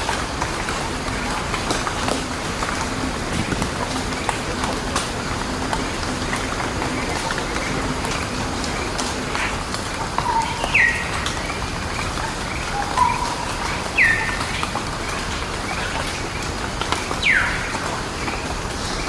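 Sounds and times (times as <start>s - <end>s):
wild birds calling: 0.0s - 19.0s.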